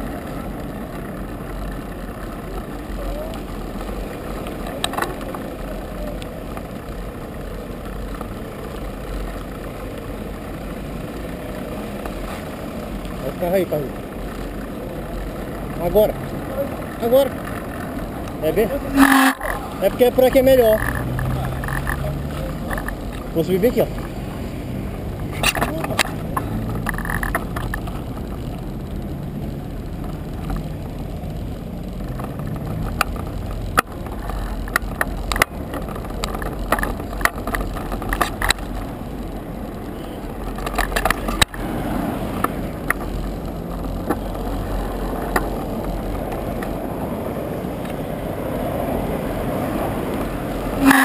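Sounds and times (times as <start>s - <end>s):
bicycle tyres rumbling on pavement: 0.0s - 51.0s
bike clicks and rattles: 0.0s - 51.0s
cars passing: 0.0s - 51.0s.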